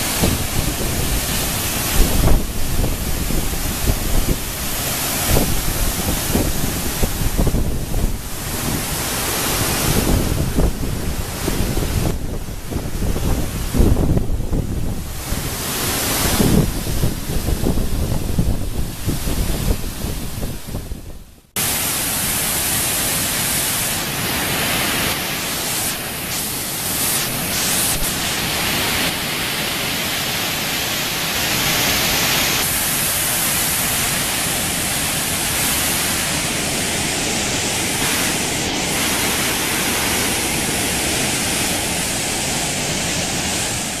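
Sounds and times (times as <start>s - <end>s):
waterfall rushing into pool: 0.0s - 44.0s.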